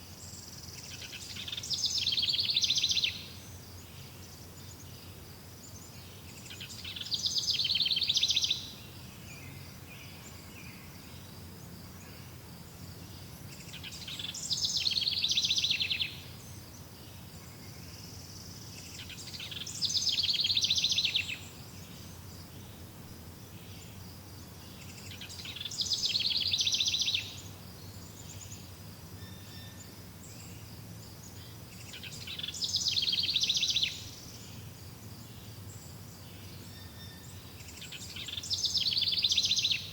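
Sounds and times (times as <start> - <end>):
faint outdoor background: 0.0 - 39.9
songbird singing high trill: 0.1 - 12.4, 13.0 - 39.9.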